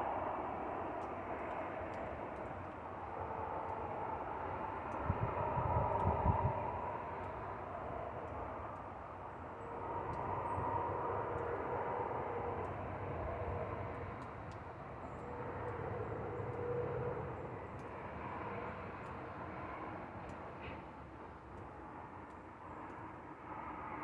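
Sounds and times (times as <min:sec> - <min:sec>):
distant engine hum: 0:00.0 - 0:24.0
faint high ticks: 0:01.0 - 0:04.1, 0:04.9 - 0:09.0, 0:10.0 - 0:23.1.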